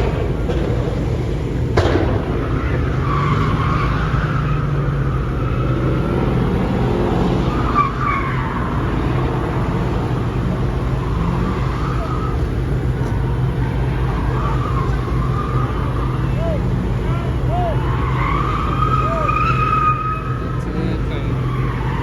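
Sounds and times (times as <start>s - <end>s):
car engines rumbling: 0.0s - 22.0s
tires squealing on pavement: 0.0s - 22.0s.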